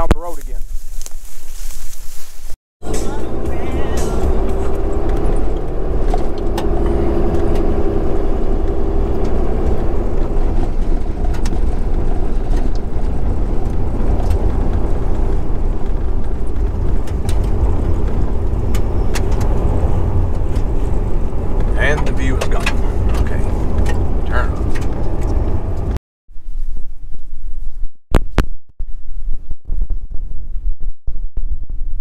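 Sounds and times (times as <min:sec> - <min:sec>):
truck engine and road rumble: 0:00.0 - 0:27.8.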